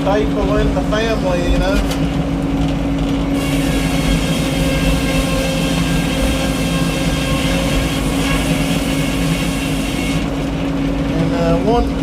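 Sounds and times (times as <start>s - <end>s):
sawmill low drone: 0.0s - 12.0s.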